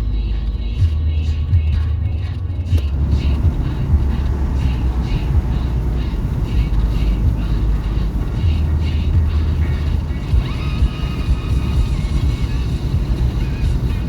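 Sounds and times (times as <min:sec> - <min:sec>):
faint regular ticking: 0:00.0 - 0:14.0
road and engine rumble: 0:00.0 - 0:14.0.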